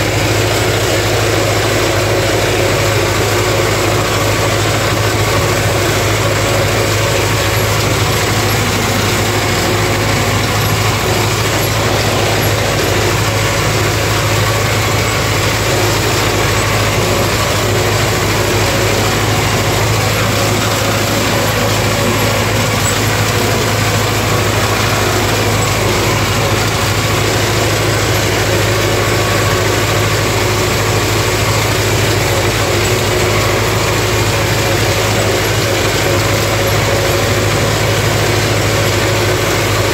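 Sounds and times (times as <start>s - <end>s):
rotary mower working: 0.0s - 39.9s
tractor diesel engine running: 0.0s - 39.9s.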